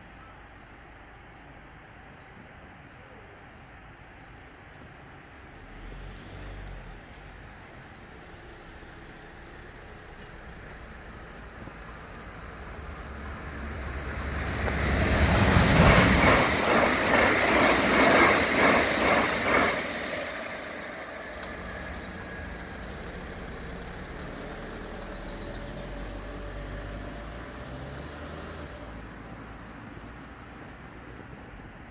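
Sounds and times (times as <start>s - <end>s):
steady train rumble: 0.0s - 5.9s, 6.6s - 27.9s, 28.6s - 31.9s.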